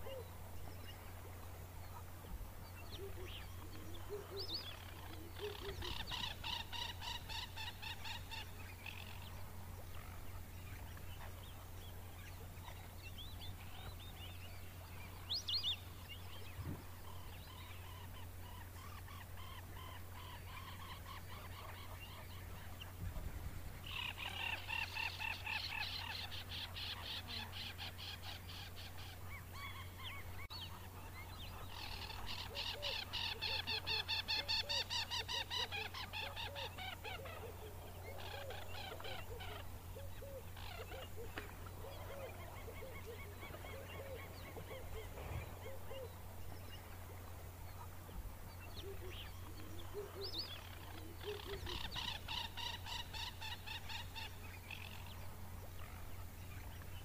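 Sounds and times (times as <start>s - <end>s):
lower repeated bird calls: 0.0s - 23.2s, 23.8s - 57.0s.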